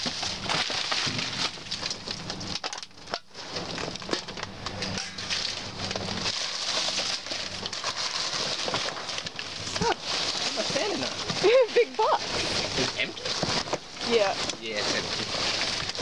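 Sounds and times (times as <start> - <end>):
trash bags crinkling and rustling: 0.0 - 16.0.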